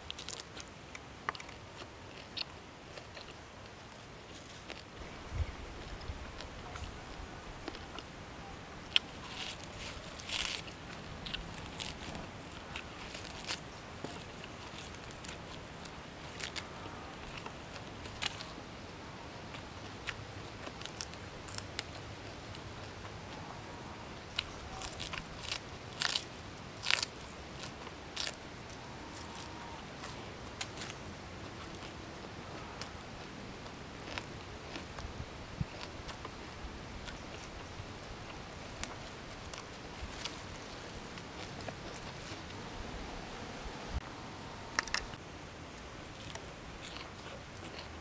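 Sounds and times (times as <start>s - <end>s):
crunchy chewing of leafy stalk: 0.0s - 48.0s.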